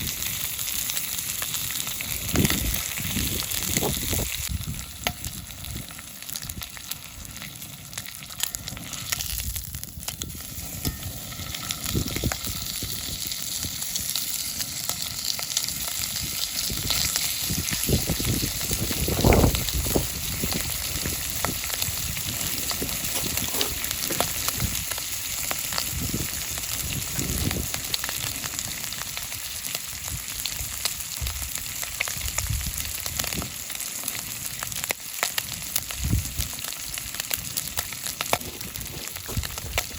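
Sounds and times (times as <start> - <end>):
bacon and eggs sizzling in pan: 0.0 - 39.9.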